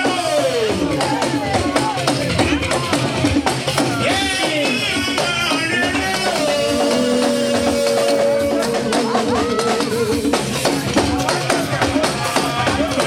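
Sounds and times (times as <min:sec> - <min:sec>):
drums: 0:00.0 - 0:13.0.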